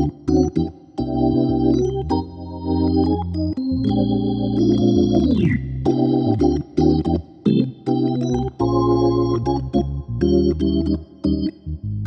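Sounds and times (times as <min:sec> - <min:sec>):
jazz organ chords: 0:00.0 - 0:12.0.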